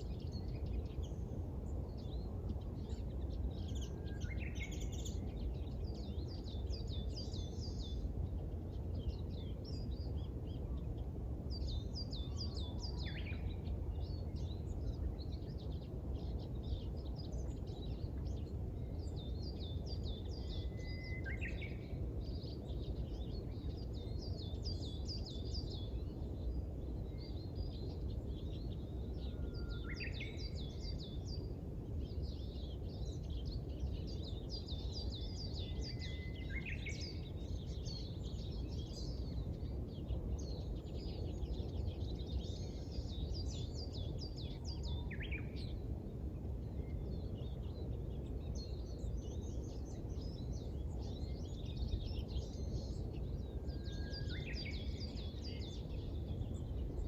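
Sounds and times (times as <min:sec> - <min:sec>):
low background rumble: 0:00.0 - 0:21.0, 0:21.6 - 0:57.0
songbirds chirping and twittering: 0:00.0 - 0:57.0.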